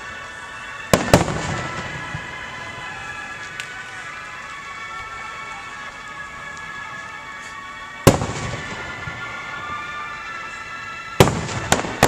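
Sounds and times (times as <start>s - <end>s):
fireworks bursting with echo: 0.0s - 12.0s.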